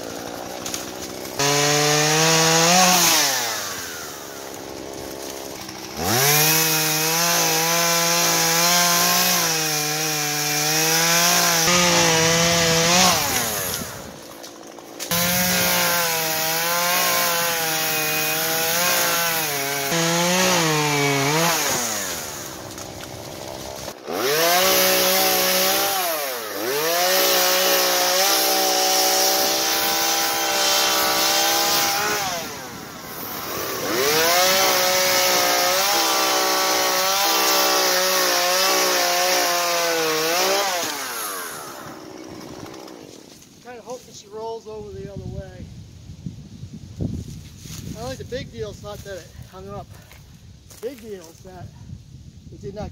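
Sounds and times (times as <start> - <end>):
chainsaw cutting tree trunk: 0.0 - 43.5.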